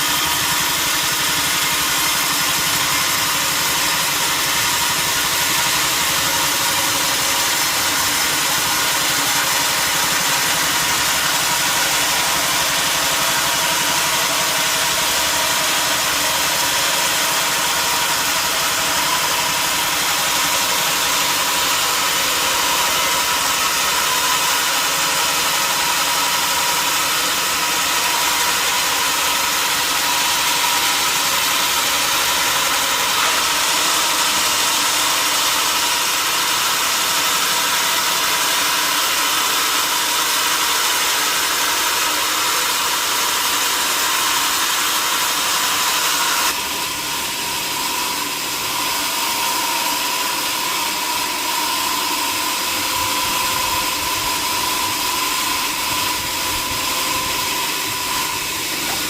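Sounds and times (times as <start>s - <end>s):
sawmill machinery hiss and whine: 0.0s - 59.0s.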